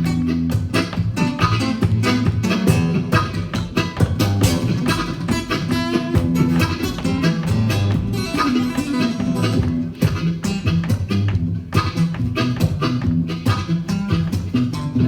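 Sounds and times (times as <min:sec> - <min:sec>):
live blues guitar: 0:00.0 - 0:15.0.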